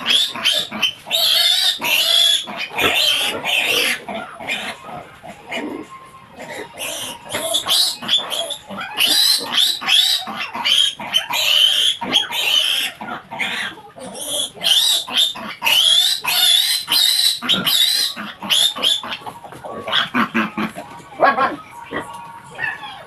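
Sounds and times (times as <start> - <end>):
piglet squealing: 0.0 - 23.0.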